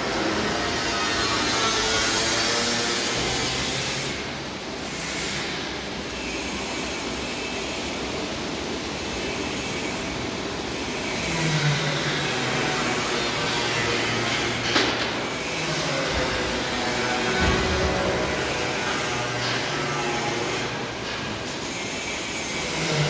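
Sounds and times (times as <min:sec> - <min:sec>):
sawmill running: 0:00.0 - 0:23.0.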